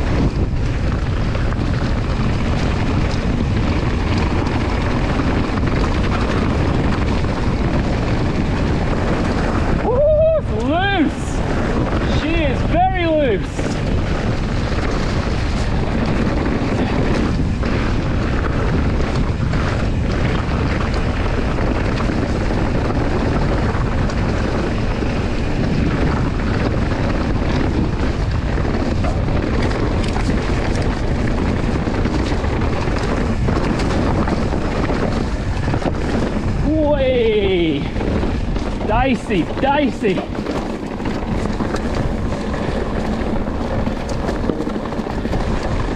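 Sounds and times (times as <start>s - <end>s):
bike knocks and rattles: 0.0s - 9.8s, 10.6s - 45.9s
tyre noise: 0.0s - 45.9s
wind buffeting microphone: 0.0s - 45.9s.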